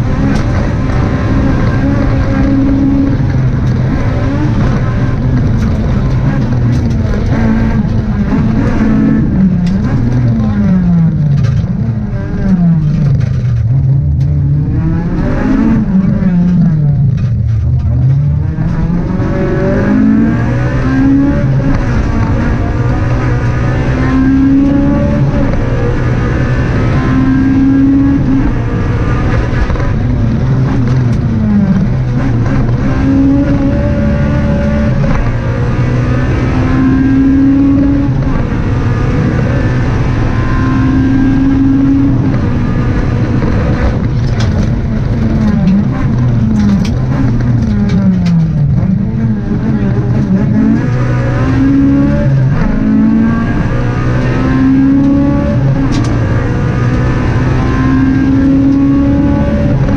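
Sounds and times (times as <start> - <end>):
car engine revving in cabin: 0.0 - 59.9
tyre and road noise: 0.0 - 59.9.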